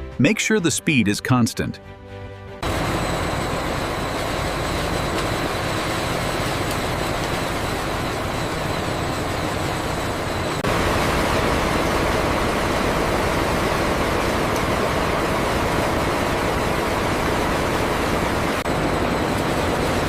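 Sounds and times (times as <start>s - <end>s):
factory machinery rumble and hiss: 2.6s - 20.0s
faint high whine: 2.6s - 20.0s.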